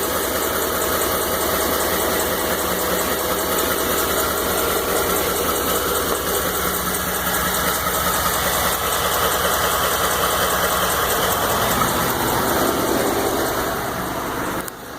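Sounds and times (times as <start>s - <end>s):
engine idling with knocking: 0.0s - 14.9s.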